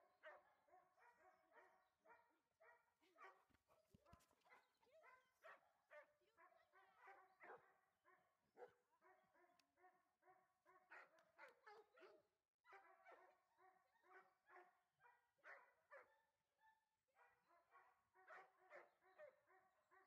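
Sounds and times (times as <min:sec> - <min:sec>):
faint dog barking: 0:00.0 - 0:16.3, 0:17.2 - 0:20.0.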